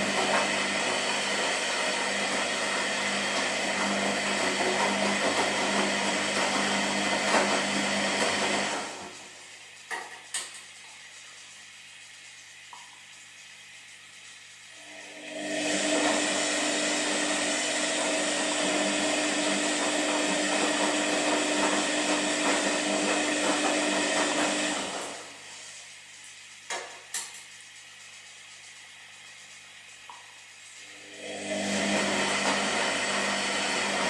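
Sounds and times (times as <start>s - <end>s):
washing machine drum humming: 0.0s - 25.5s, 26.5s - 34.0s.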